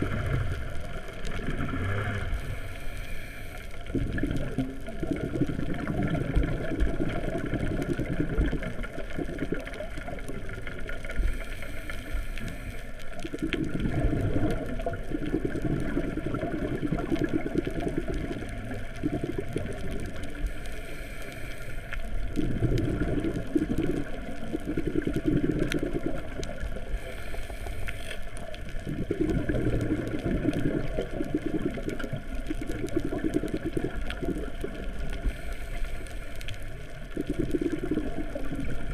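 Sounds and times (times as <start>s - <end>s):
exhaled bubbles underwater: 0.0s - 38.9s
muffled underwater rumble: 0.0s - 38.9s.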